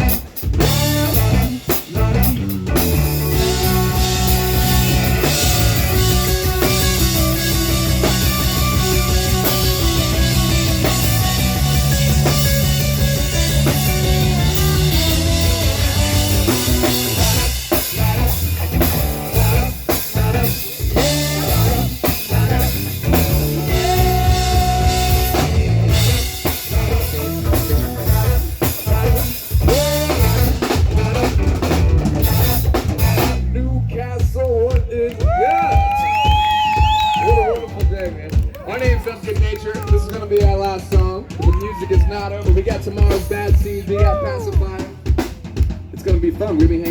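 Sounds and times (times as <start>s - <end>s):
drum kit: 0.0s - 46.9s
guitar: 0.0s - 46.9s.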